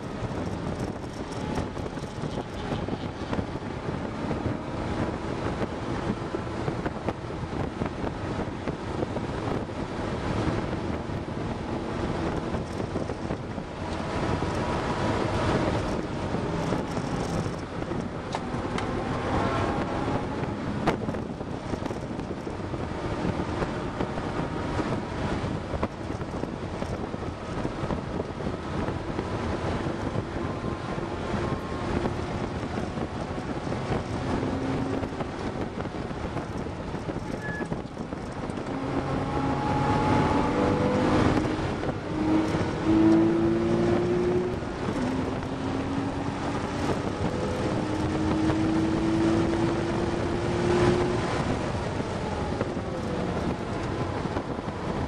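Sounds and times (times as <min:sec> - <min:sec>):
car engine accelerating: 0:00.0 - 0:55.0
wind and road noise: 0:00.0 - 0:55.0.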